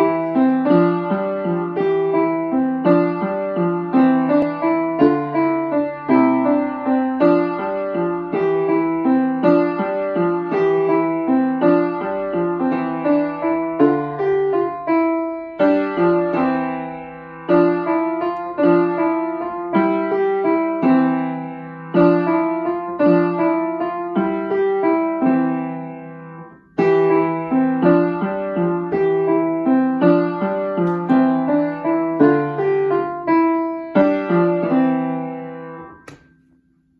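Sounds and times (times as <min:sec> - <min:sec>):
upright piano simple tune: 0:00.0 - 0:36.9.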